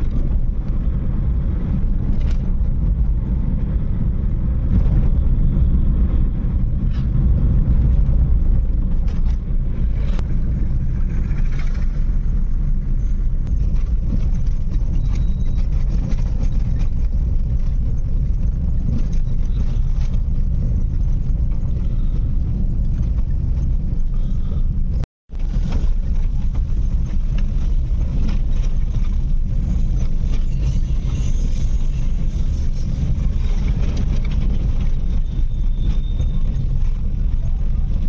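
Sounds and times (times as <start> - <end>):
car cabin road rumble: 0.0 - 38.0.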